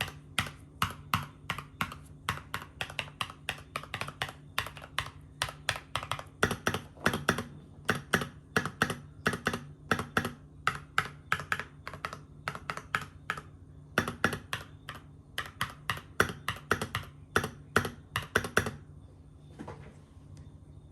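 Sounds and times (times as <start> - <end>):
typing on mechanical keyboard: 0.0 - 18.8.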